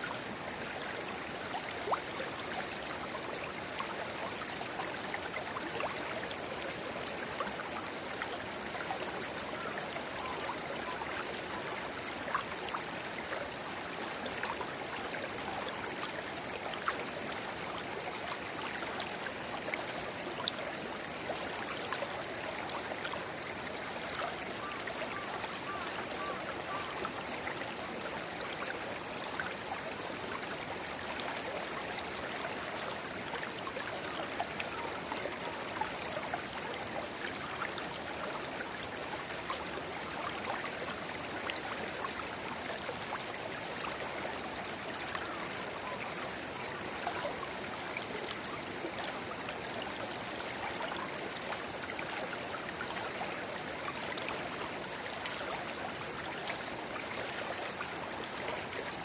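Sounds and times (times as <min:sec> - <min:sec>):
river babbling: 0:00.0 - 0:59.0.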